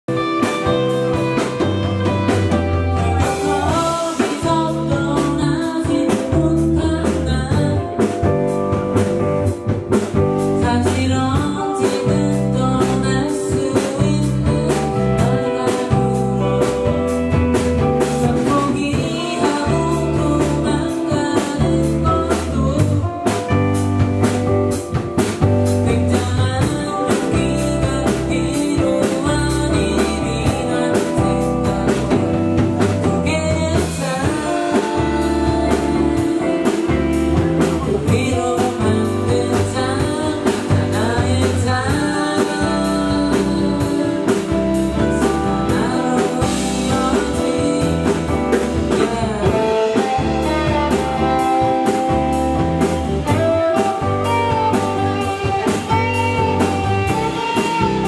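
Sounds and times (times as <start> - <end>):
bass notes: 0.0 - 58.0
drum kit beat: 0.0 - 58.0
electric guitar: 0.0 - 58.0
man singing lead: 0.0 - 58.0.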